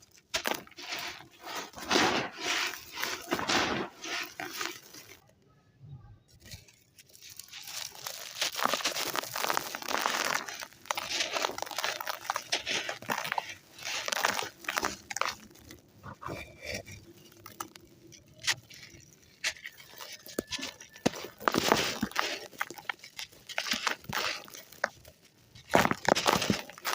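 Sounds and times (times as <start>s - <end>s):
sand crunching between fingers: 0.0s - 5.2s, 7.1s - 26.9s.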